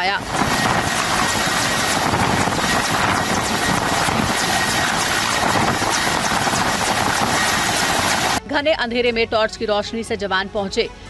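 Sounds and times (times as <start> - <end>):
helicopter hovering overhead: 0.0 - 9.3.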